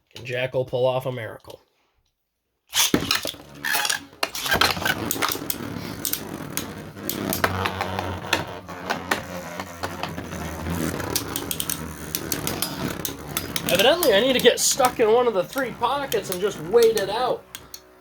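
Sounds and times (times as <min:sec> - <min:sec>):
spinning tops clicking together: 0:02.7 - 0:18.0
spinning tops whirring: 0:02.7 - 0:18.0.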